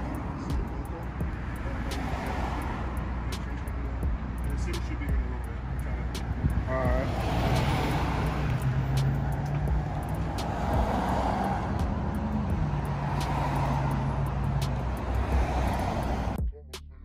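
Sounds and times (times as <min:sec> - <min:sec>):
car engine running: 0:00.0 - 0:16.4
road noise: 0:00.0 - 0:16.9.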